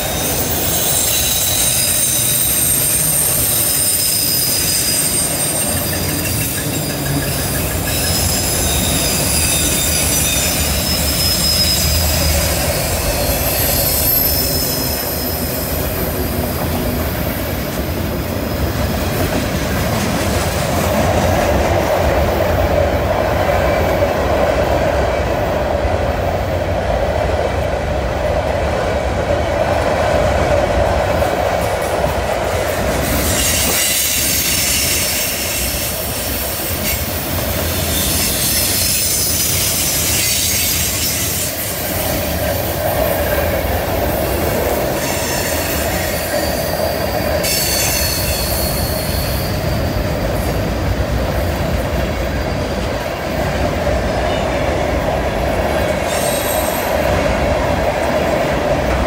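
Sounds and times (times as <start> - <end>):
wheels squealing against rails: 0.0 - 24.1, 32.5 - 57.9.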